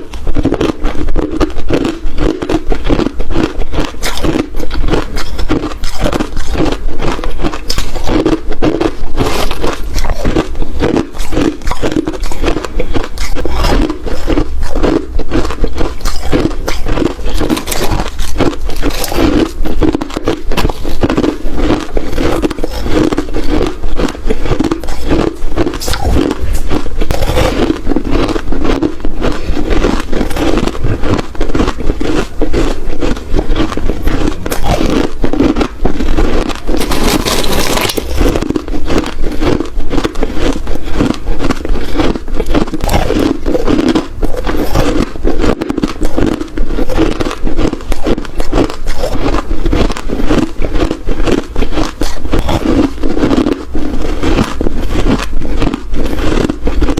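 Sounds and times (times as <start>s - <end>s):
ice crunching being chewed: 0.0s - 56.9s.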